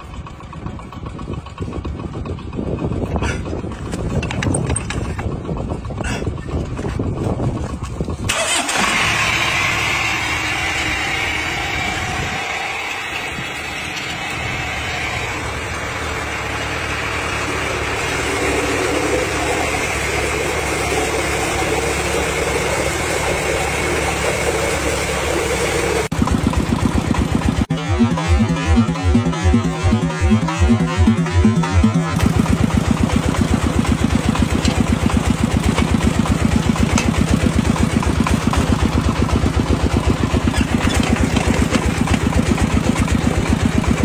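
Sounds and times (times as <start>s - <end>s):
tractor engine driving water pump: 0.0s - 44.0s.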